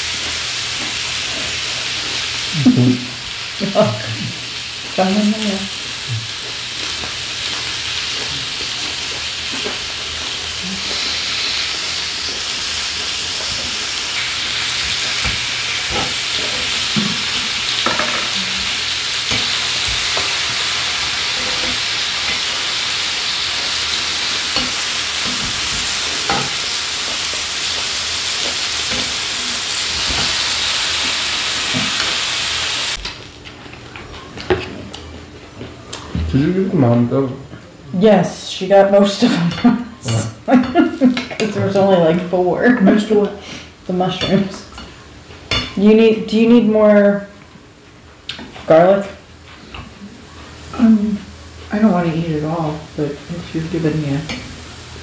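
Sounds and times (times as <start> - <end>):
food sizzling on grill pan: 0.0 - 34.3, 38.2 - 55.0.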